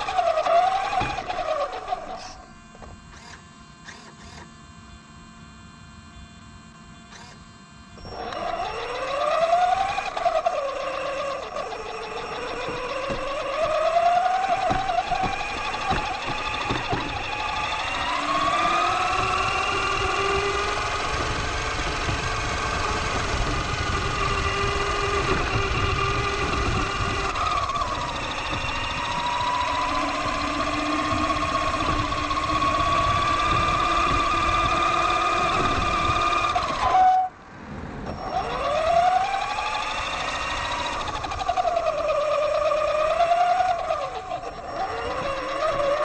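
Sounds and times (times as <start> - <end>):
rc truck motor whining: 0.0 - 46.0
tyres rumbling on pavement: 8.0 - 46.0.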